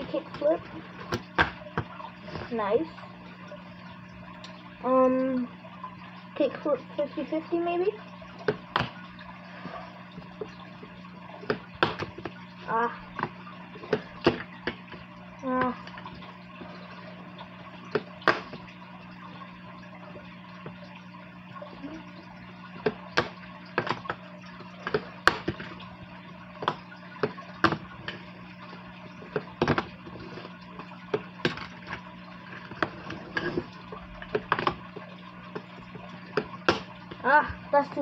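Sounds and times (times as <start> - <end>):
aquarium filter water trickle: 0.0 - 38.0
steady low hum: 0.0 - 38.0.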